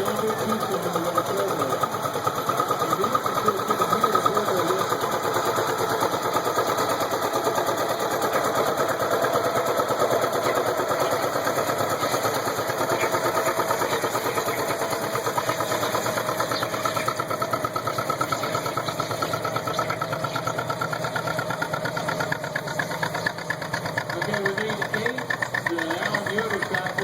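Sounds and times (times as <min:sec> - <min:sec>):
tractor engine popping exhaust: 0:00.0 - 0:27.0.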